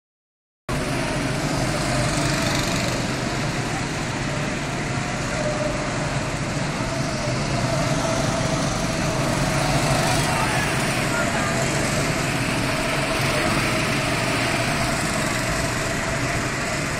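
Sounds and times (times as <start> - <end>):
go-kart engines droning: 0.7 - 16.9.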